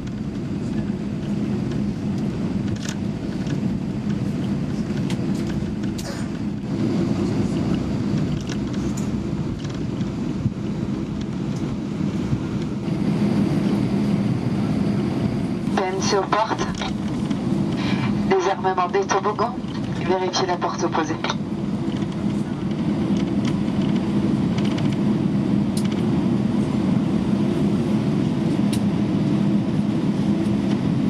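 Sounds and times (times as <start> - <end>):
aircraft engine rumble: 0.0 - 31.0
steady hum: 0.0 - 31.0.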